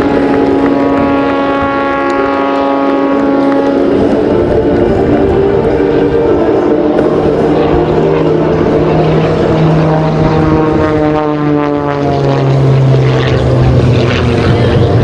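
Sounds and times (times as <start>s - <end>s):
airplane piston engine and propeller: 0.0s - 15.0s.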